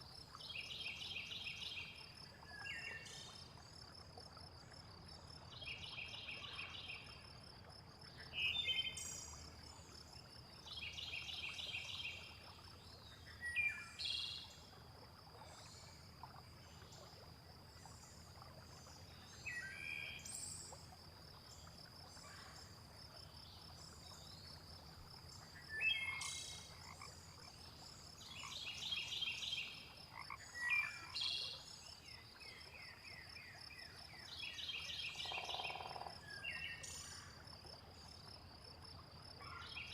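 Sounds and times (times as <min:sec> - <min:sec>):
frogs croaking: 0:00.8 - 0:39.9.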